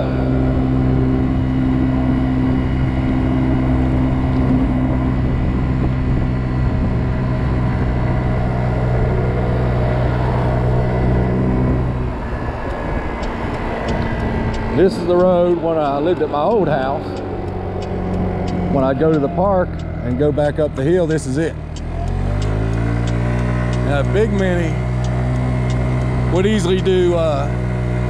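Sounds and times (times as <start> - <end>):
scooter engine at full throttle: 0.0 - 28.0
wind and road noise: 0.0 - 28.0.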